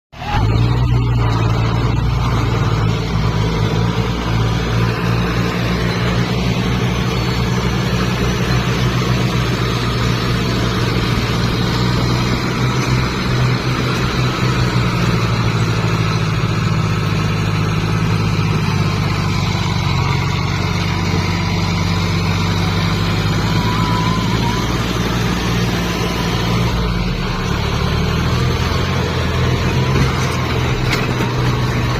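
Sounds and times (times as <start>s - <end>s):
tractor engine droning: 0.1s - 31.9s.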